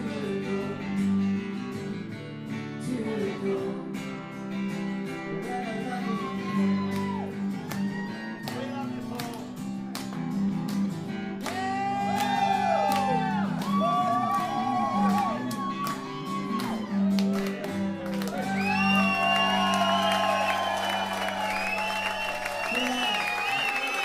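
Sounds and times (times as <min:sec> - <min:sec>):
acoustic guitars strumming: 0:00.0 - 0:21.6.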